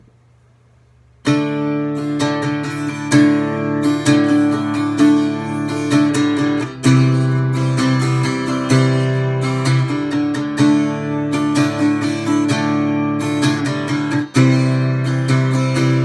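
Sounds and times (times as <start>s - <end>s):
strummed acoustic guitar: 1.2s - 16.0s.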